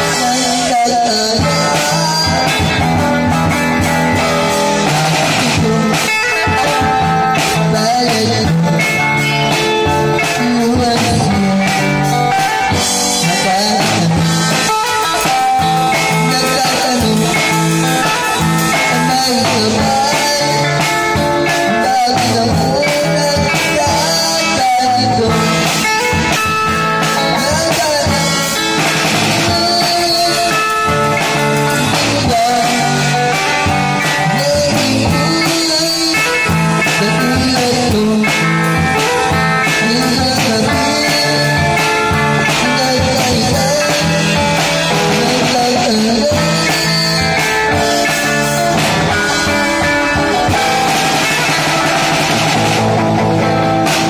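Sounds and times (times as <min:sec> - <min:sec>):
amplified electric guitar: 0:00.0 - 0:54.0
drum kit with cymbals: 0:00.0 - 0:54.0.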